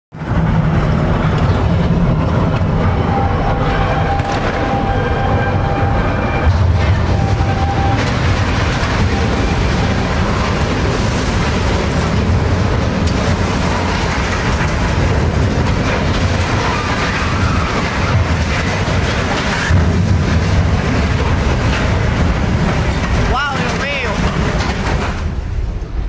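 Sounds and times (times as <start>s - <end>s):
truck driving rumble: 0.1s - 26.0s.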